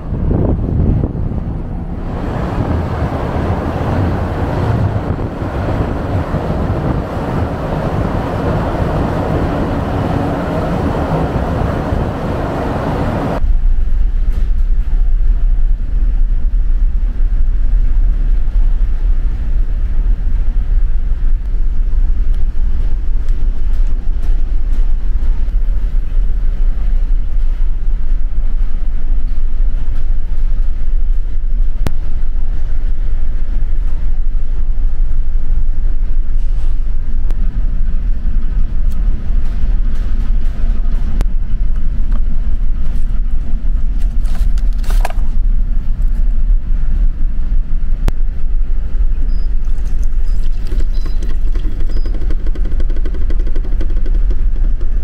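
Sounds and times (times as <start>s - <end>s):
deep ship engine drone: 0.0s - 55.0s
wind and sea noise: 0.0s - 55.0s.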